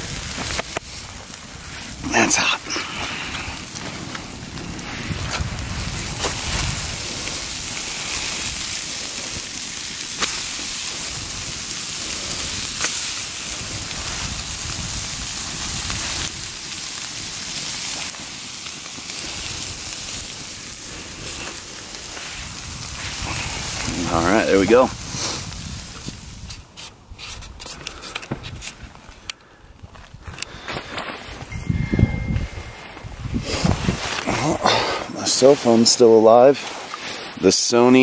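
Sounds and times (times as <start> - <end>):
campfire hissing: 0.0 - 38.0
fire crackles and pops: 0.0 - 38.0.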